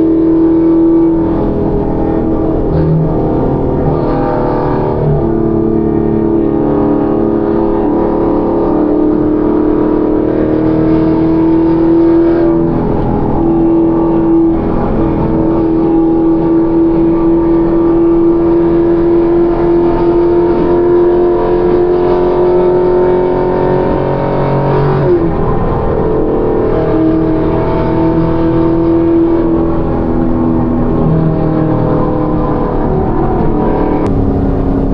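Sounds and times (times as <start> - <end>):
car engine drone while driving: 0.0 - 34.9
road noise: 0.0 - 34.9.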